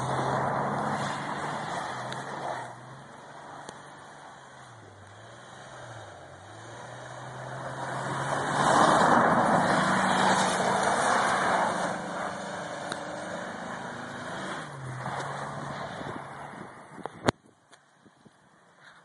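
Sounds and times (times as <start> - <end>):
tyres rushing through snow: 0.0 - 16.8
car engine: 0.0 - 18.6.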